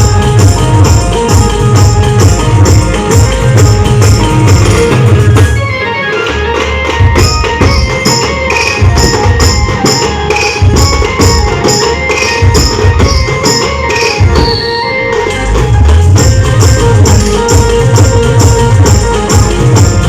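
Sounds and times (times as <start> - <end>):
steady drum beat: 0.0 - 5.8, 6.5 - 14.6, 15.3 - 20.0
band melody: 0.0 - 20.0
jingling percussion: 0.0 - 20.0.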